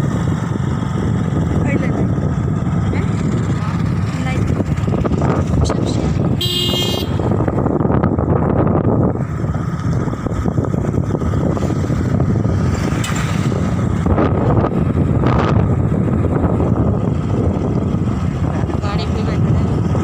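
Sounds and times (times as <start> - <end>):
vehicle road and wind noise: 0.0 - 20.0.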